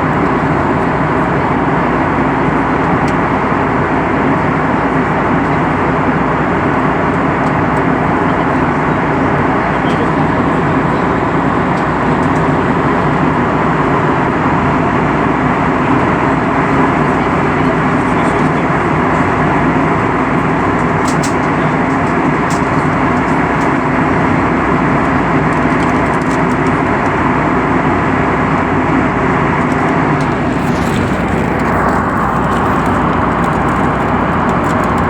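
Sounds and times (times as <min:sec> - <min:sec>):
airplane engine rumble: 0:00.0 - 0:35.0.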